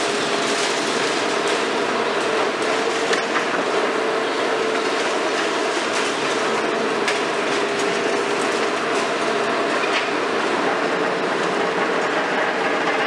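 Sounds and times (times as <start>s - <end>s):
demolition clicks and crackles: 0.0s - 13.0s
excavator mechanical din: 0.0s - 13.0s.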